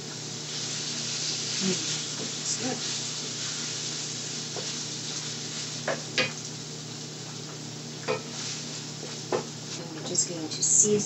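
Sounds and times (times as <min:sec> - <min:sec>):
sauce sizzling in skillet: 0:00.0 - 0:09.8.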